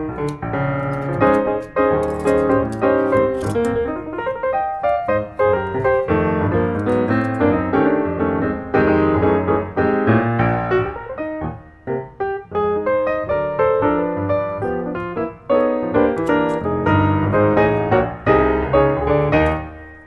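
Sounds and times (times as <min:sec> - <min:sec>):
piano playing quick notes: 0:00.0 - 0:20.0.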